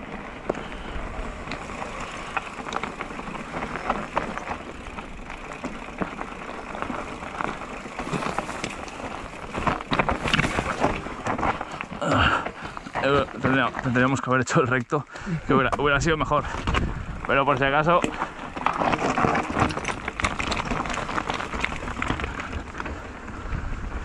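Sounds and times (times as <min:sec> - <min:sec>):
tyres crunching over stones: 0:00.0 - 0:23.4
bike clicking and rattling: 0:00.0 - 0:24.0.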